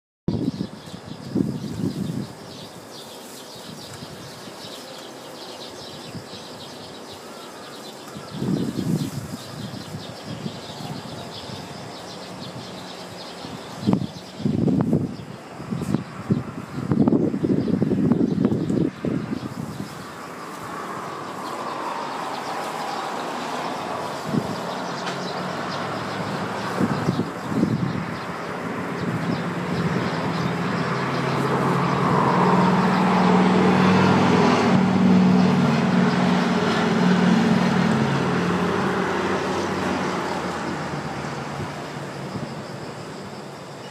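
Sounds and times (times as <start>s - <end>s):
wind buffeting microphone: 0.3s - 4.8s, 5.6s - 43.3s
distant vehicle noise: 0.3s - 43.9s.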